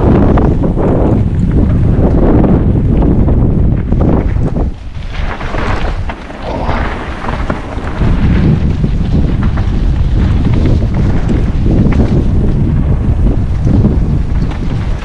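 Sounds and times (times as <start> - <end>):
bike rumbling on dirt trail: 0.0 - 15.0
wind buffeting microphone: 0.0 - 15.0.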